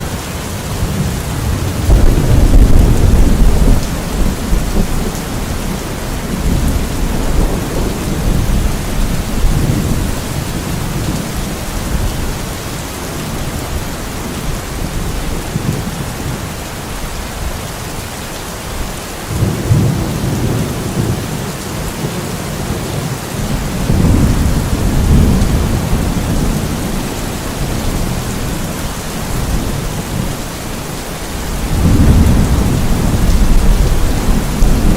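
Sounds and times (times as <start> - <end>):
thunder rumbling: 0.0 - 17.7, 18.8 - 34.9
steady rain falling: 0.0 - 34.9.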